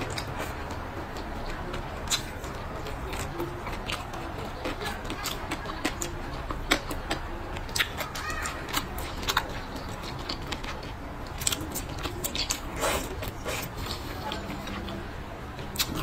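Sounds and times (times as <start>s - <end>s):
chewing with wet mouth clicks: 0.0s - 16.0s.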